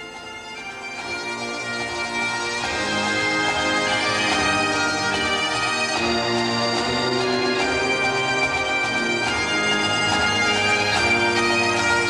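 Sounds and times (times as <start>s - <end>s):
bagpipe music: 0.0s - 12.0s.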